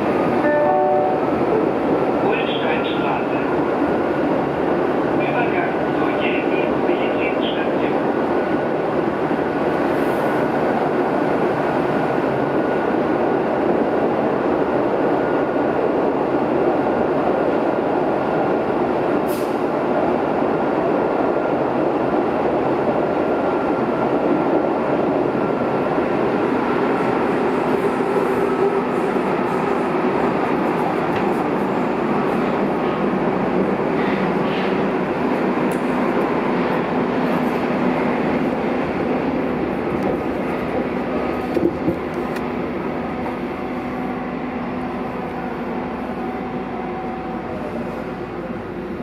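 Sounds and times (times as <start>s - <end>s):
subway car wheels rumbling: 0.0s - 49.0s.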